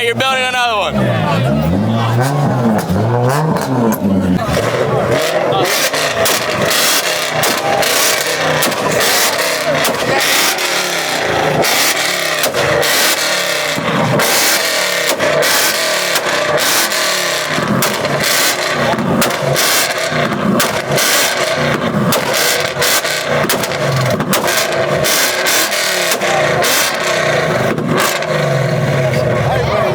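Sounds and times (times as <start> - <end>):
exhaust crackling and popping: 0.0 - 29.7
car engine at high revs: 0.0 - 29.9.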